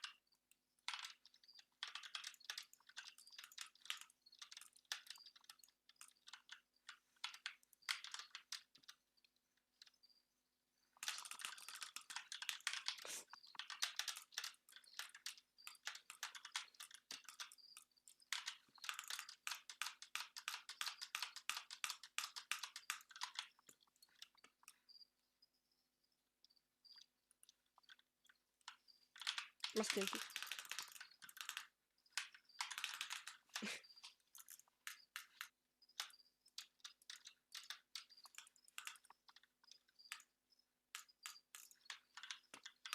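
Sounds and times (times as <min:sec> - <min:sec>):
keyboard typing: 0:00.0 - 0:10.1, 0:10.8 - 0:25.5, 0:26.4 - 0:42.9
mouse clicking: 0:00.0 - 0:10.1, 0:10.9 - 0:25.1, 0:26.4 - 0:42.9.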